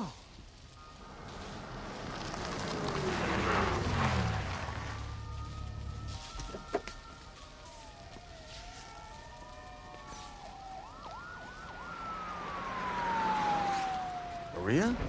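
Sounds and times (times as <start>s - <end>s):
emergency sirens wailing: 0.5s - 15.0s.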